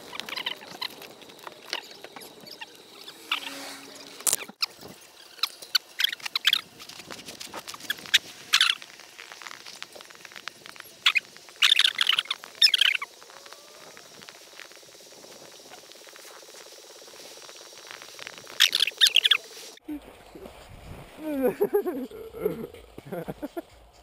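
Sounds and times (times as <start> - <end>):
sliding over snow hiss: 0.0 - 23.6
snow crunching against camera: 0.0 - 23.6.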